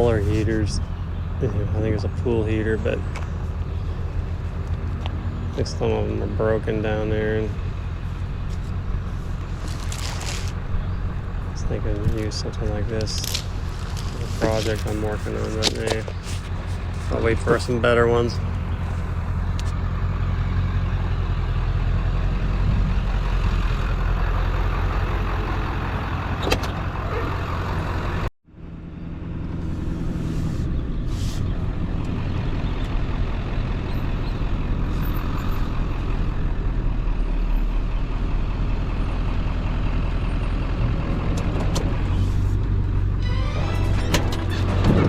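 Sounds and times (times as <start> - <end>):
road noise: 0.0 - 45.0
vehicle engine running: 0.0 - 45.0.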